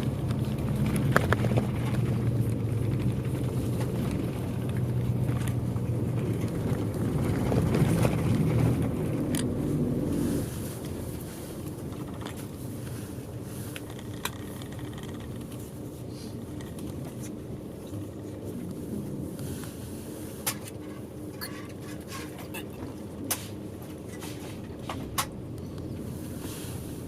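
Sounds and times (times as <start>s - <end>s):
bus engine and road noise: 0.0s - 27.0s.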